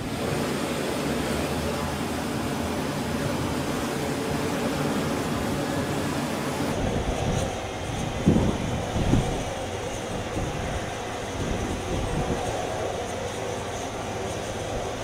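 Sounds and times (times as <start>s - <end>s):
aircraft engines roaring: 0.0s - 15.0s.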